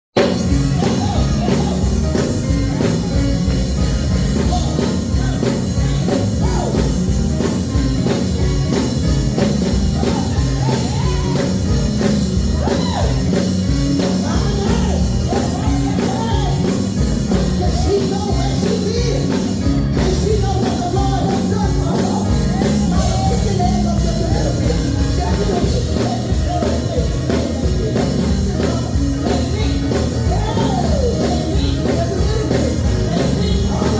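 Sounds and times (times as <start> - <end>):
gospel band with drums: 0.1 - 33.9
person singing: 0.2 - 33.9.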